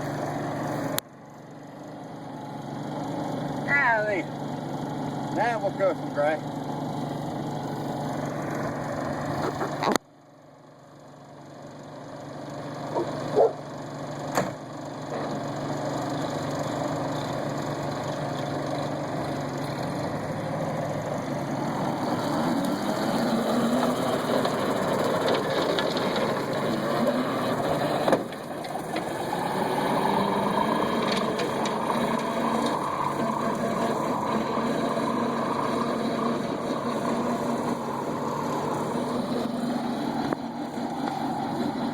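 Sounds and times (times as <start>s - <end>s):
pickup engine running: 0.0s - 41.9s.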